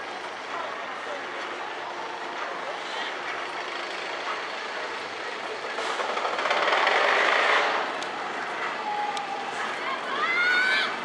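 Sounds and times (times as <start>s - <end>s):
roller coaster rushing rumble: 0.0s - 11.0s.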